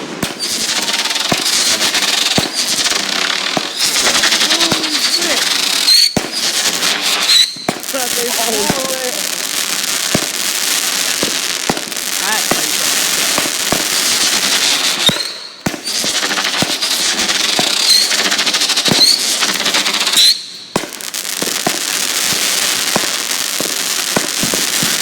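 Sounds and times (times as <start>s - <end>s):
fireworks bangs: 0.0s - 25.0s
fireworks crackling: 0.0s - 25.0s
fireworks whistles: 0.0s - 25.0s.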